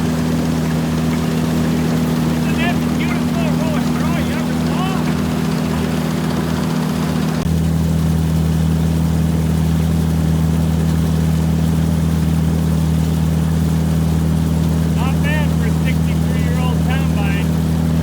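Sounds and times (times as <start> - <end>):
harvester engine droning: 0.0 - 18.0.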